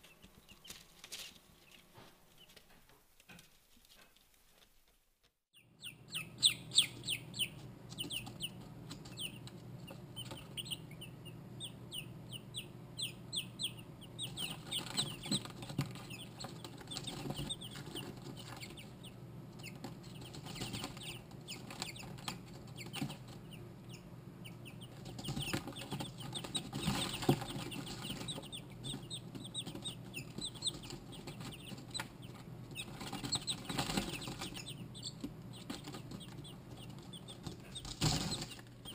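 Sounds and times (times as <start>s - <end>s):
chicks peeping: 0.0s - 2.8s, 5.5s - 38.9s
low steady hum: 5.6s - 38.9s.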